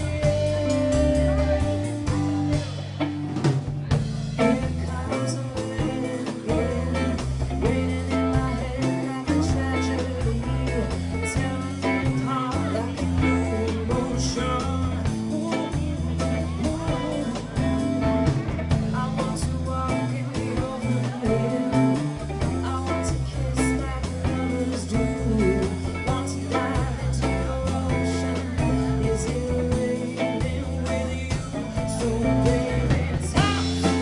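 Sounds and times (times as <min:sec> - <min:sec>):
live pop-rock band: 0:00.0 - 0:34.0.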